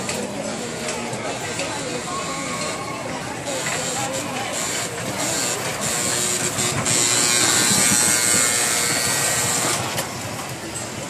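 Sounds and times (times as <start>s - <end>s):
kiddie ride car buzzing hum: 0.0s - 11.0s.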